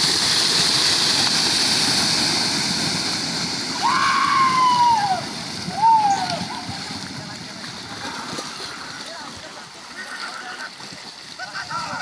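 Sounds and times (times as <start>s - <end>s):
water splashing and churning: 0.0s - 12.0s.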